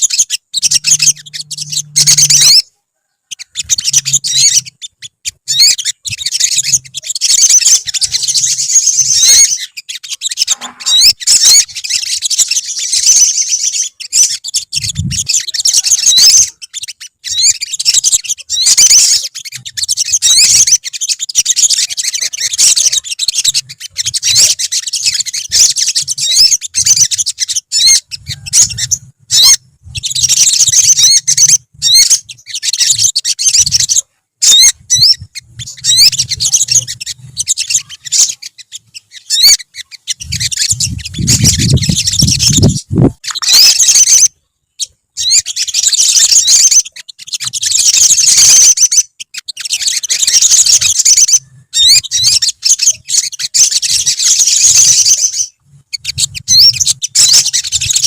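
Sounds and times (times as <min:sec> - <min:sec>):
birds chirping and twittering: 0:00.0 - 0:58.0.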